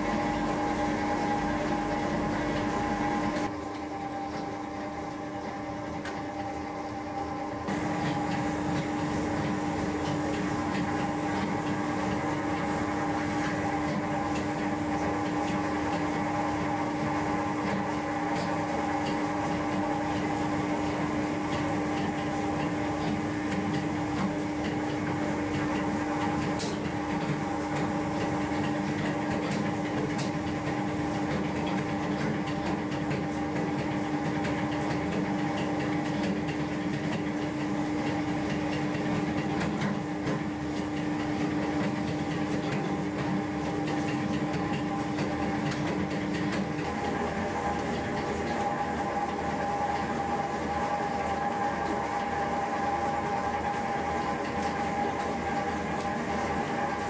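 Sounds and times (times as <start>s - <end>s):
machine humming with steady tones: 0.0s - 57.0s.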